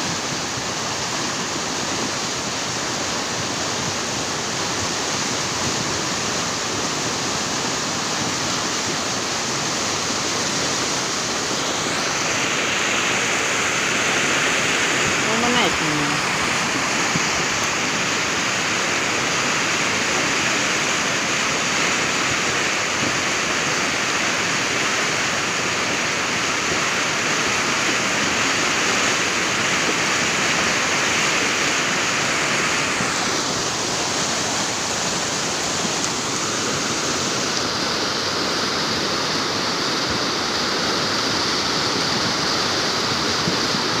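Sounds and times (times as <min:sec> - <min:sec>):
floodwater rushing: 0:00.0 - 0:44.0.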